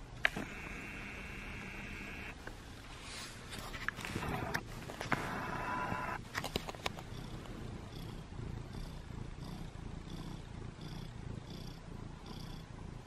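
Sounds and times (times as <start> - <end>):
cat purring: 0.0 - 2.5, 3.4 - 13.0.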